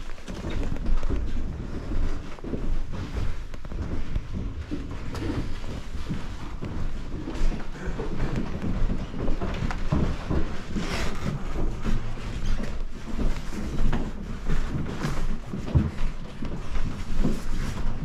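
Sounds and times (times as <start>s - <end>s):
handling thumps and rustles: 0.0s - 18.0s.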